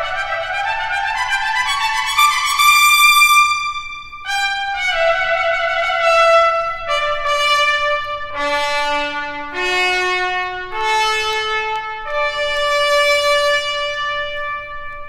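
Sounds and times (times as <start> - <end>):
brass chords led by trumpet: 0.0 - 15.0.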